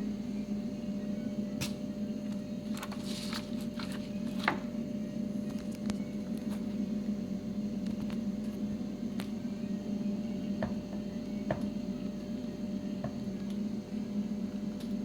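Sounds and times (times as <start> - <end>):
machine electrical hum: 0.0 - 15.0.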